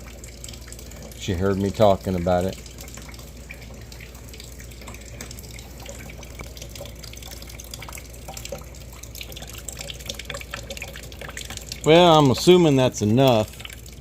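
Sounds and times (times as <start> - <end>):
fluid trickling into bucket: 0.0 - 14.0.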